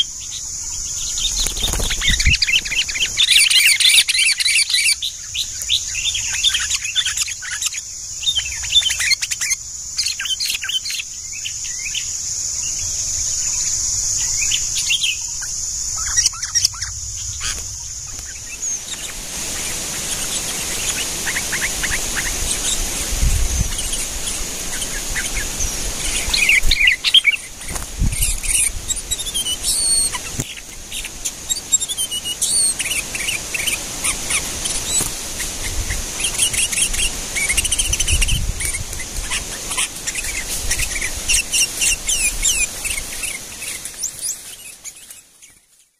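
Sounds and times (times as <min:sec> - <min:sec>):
bulbuls chirping: 0:00.0 - 0:45.9.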